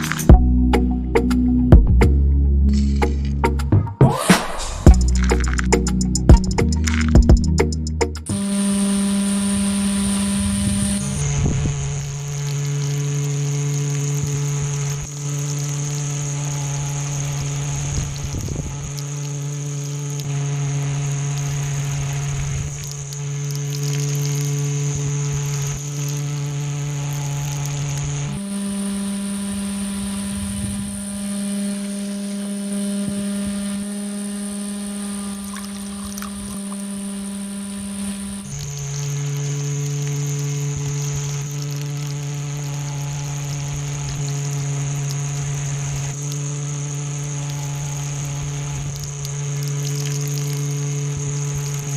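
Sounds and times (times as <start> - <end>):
small electric motor whine: 8.3 - 51.9.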